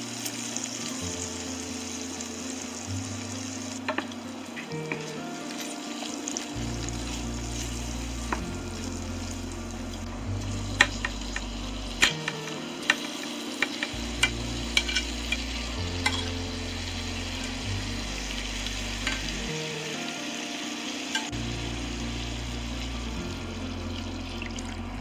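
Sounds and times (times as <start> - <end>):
onions sizzling in a frying pan: 0.0 - 24.8.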